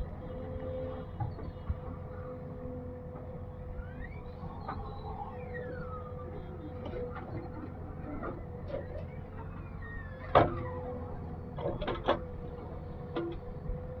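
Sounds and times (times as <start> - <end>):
heavy machine engine humming: 0.0 - 14.0.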